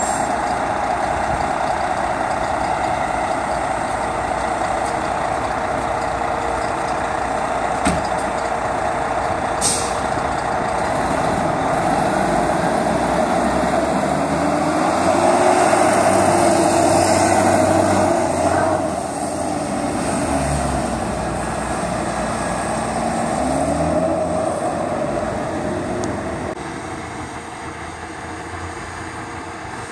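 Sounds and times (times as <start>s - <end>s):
fire truck engine passing: 0.0s - 29.9s.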